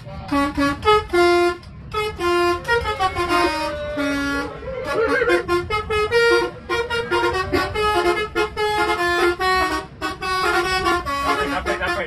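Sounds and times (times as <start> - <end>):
bus horn tune from keyboard: 0.2 - 12.0.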